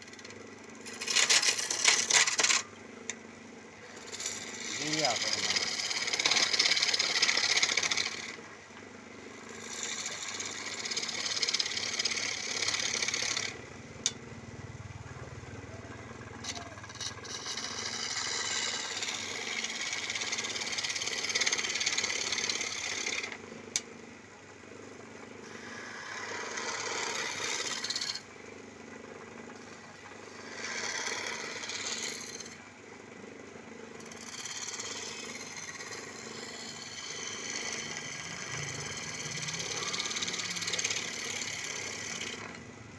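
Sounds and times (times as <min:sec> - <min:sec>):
chisel scraping spinning wood: 0:00.0 - 0:14.2, 0:15.1 - 0:23.8, 0:25.2 - 0:42.8
lathe motor hum: 0:00.0 - 0:42.9.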